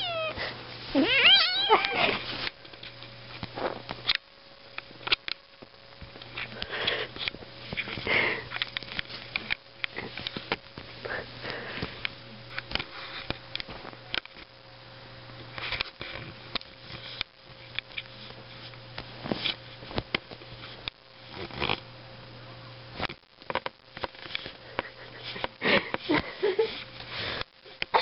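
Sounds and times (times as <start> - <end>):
faint steady hum: 0.0 - 28.0
small clicks and rustles: 1.7 - 11.0, 11.8 - 14.5, 15.4 - 21.9, 23.0 - 28.0.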